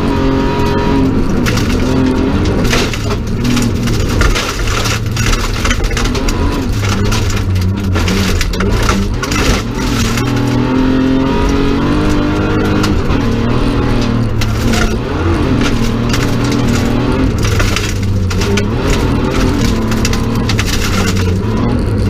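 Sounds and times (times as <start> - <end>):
gravel rattling against underside: 0.0 - 22.0
rally car engine revving: 0.0 - 22.0.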